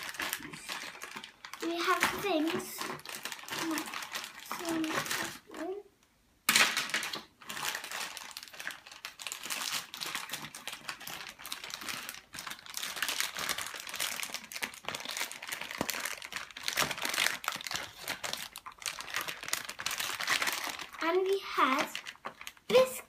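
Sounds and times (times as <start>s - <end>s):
packaging crinkling and rustling: 0.0s - 5.8s, 6.5s - 23.0s.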